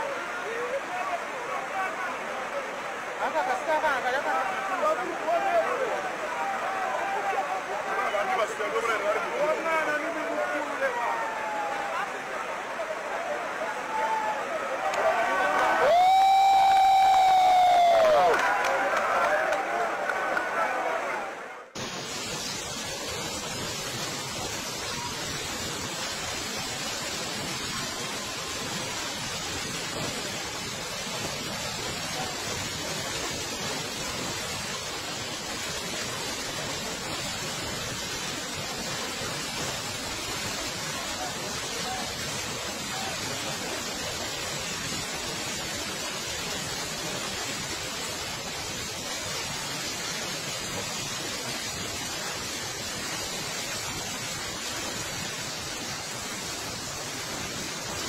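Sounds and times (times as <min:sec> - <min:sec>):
fast-flowing floodwater rushing: 0:00.0 - 0:58.0.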